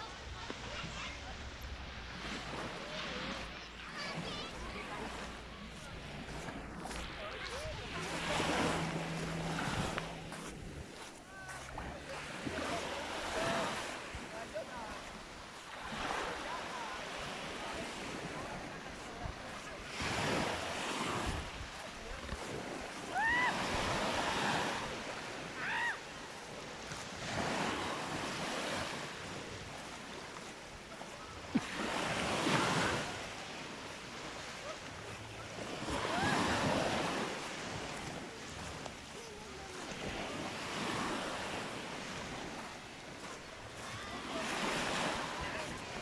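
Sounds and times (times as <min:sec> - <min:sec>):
waves breaking on a beach: 0:00.0 - 0:46.0.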